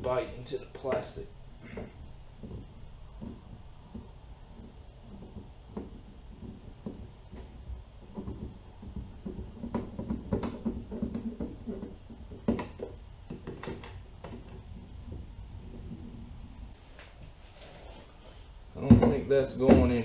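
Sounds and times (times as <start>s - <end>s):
tools knocking on plastic hull: 0.9s - 16.1s, 18.8s - 20.0s.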